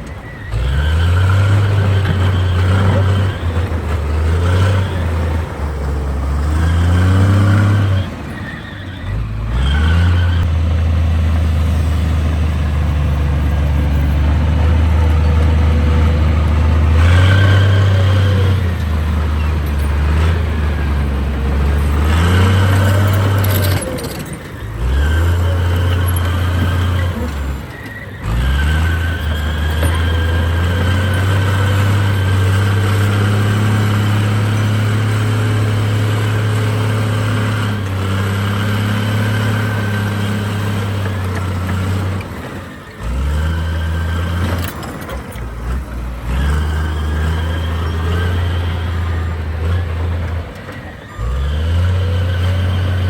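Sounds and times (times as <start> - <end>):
heavy diesel machinery engines: 0.0 - 53.0.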